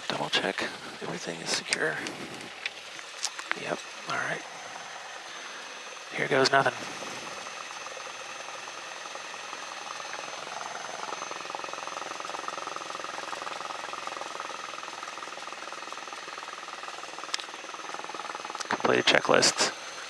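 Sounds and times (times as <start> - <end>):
piston aircraft engine running: 0.0 - 20.0.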